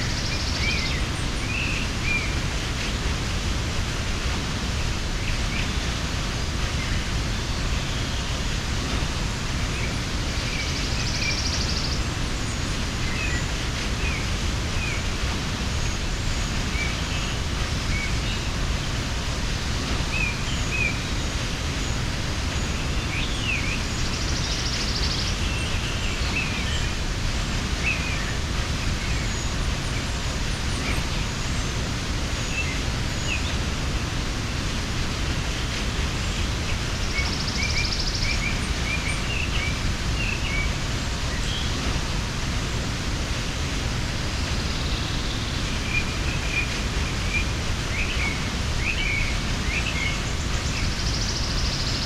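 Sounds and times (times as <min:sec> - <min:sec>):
small birds chirping: 0:00.0 - 0:52.0
waterfall rushing: 0:00.0 - 0:52.0.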